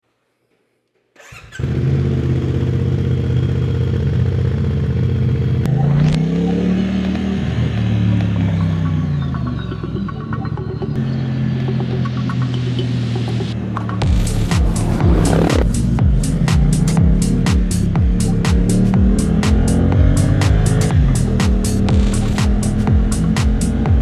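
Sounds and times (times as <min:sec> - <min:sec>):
motorcycle engine idling and revving: 0:01.2 - 0:24.0.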